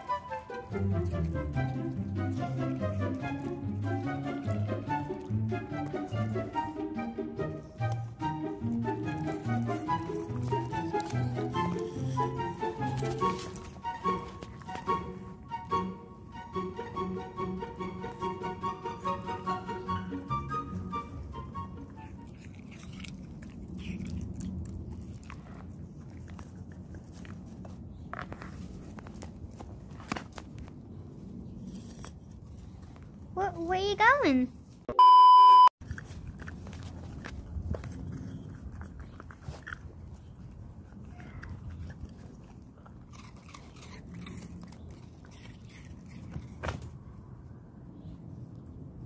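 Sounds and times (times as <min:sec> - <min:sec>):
dog chewing and eating: 0:00.0 - 0:15.8, 0:17.2 - 0:33.9, 0:35.8 - 0:49.0.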